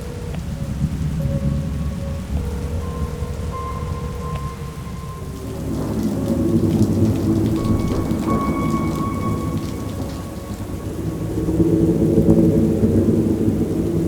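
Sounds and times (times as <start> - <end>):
rain falling steadily: 0.0 - 14.0
low rolling thunder: 0.6 - 14.0.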